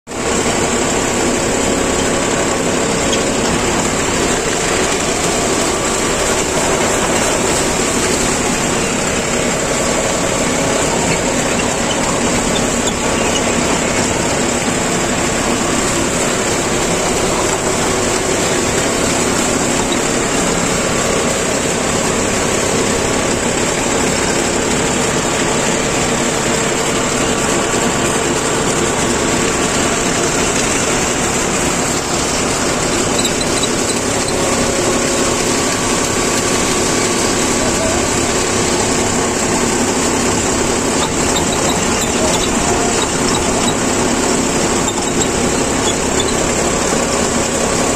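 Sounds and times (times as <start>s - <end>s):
tractor diesel engines running: 0.0s - 47.9s.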